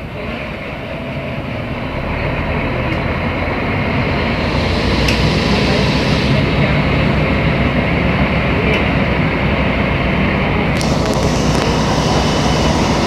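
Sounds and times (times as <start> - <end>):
bus diesel engine humming: 0.0 - 13.0
road noise: 0.0 - 13.0.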